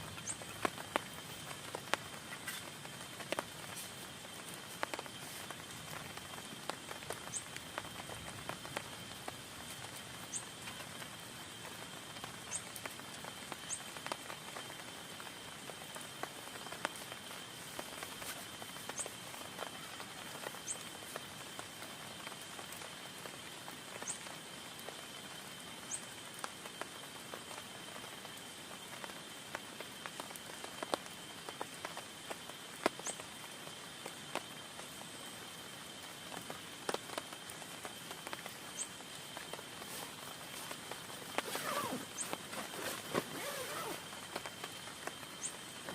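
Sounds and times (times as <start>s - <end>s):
rain on a tent: 0.0s - 45.9s.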